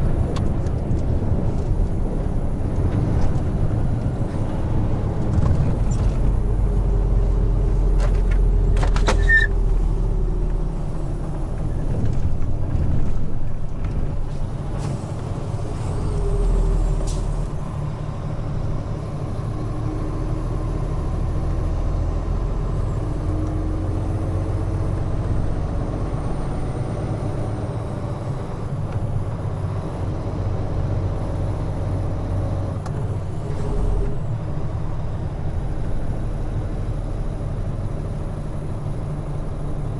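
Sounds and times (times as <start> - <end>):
road noise: 0.0 - 39.9
truck diesel engine: 0.0 - 39.9.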